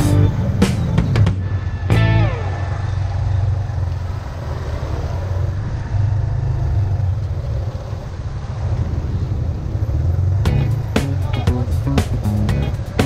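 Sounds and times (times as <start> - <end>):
motorbike engine drone: 0.0 - 13.0
road and wind noise: 0.0 - 13.0.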